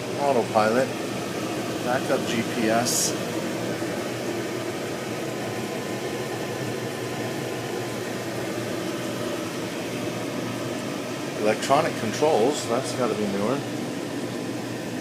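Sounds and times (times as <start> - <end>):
air conditioning hiss and hum: 0.0 - 15.0.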